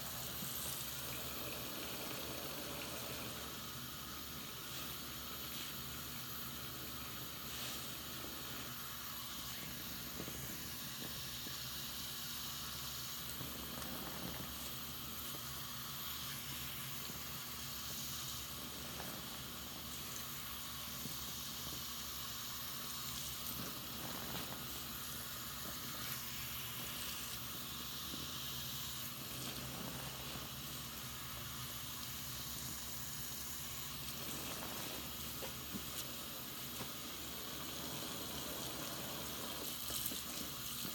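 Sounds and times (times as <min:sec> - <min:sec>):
running tap water: 0:00.0 - 0:40.9
sponge squeezed in soapy suds: 0:00.0 - 0:40.9
wet fizzing of foam: 0:00.0 - 0:40.9.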